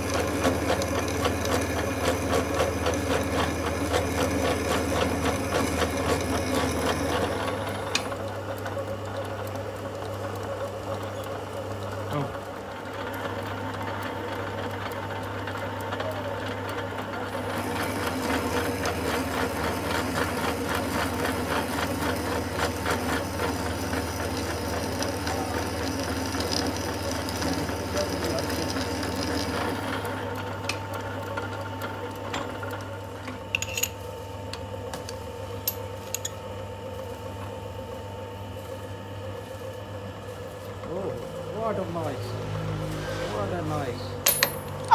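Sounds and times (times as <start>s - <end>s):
lathe cutting chatter: 0.0s - 32.0s, 38.7s - 44.2s
lathe motor humming: 0.0s - 44.9s.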